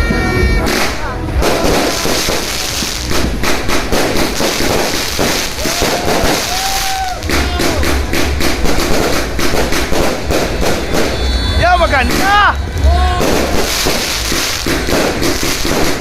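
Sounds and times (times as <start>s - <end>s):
firecrackers crackling: 0.6s - 16.0s
firework whistles: 0.6s - 16.0s.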